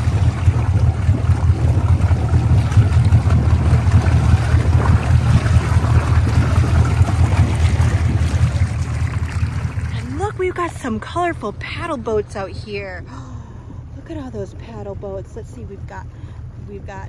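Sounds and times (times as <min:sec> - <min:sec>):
boat engine droning: 0:00.0 - 0:17.0
water splashing at stern: 0:00.0 - 0:17.0.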